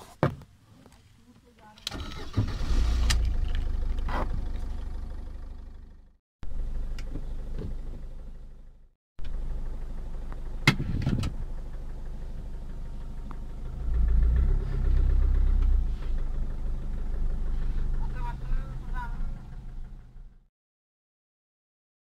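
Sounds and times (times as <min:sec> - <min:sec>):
car engine idling: 0:01.6 - 0:20.5.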